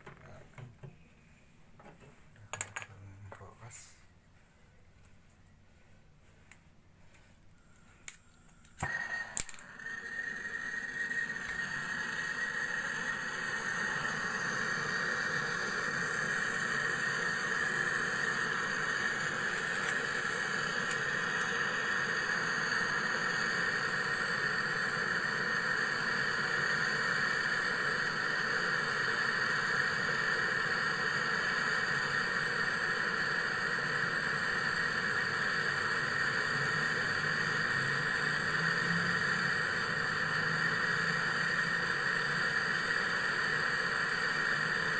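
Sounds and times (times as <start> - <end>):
small motor running: 8.8 - 44.9.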